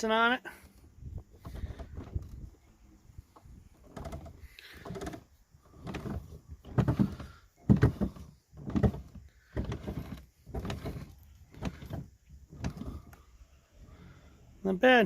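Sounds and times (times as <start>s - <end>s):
creaking scraping boat steering: 0.5s - 14.4s.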